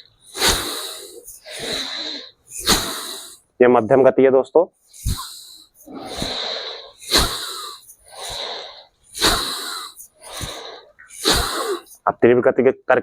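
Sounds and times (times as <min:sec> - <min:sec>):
forceful breathing through nose: 0:00.0 - 0:03.5, 0:04.9 - 0:12.0.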